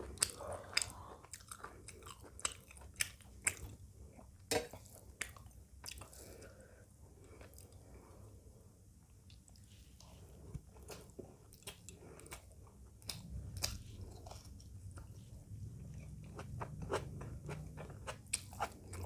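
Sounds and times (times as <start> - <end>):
chewing and crunching food: 0.0 - 6.6, 7.2 - 8.2, 9.1 - 19.0.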